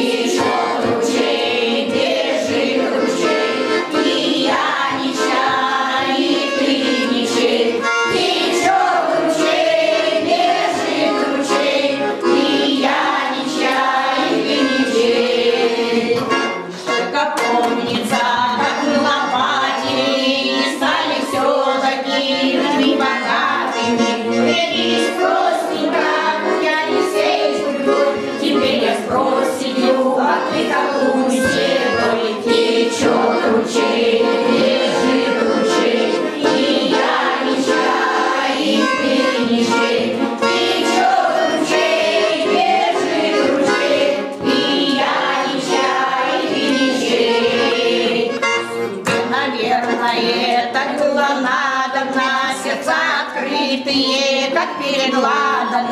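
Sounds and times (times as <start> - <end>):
button accordion: 0.0 - 55.9
women's choir singing: 0.0 - 55.9.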